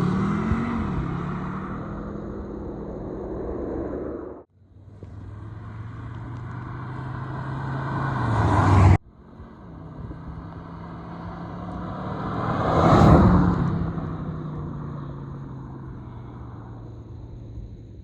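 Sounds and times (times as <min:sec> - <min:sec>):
car engine and exhaust running: 0:00.0 - 0:18.0.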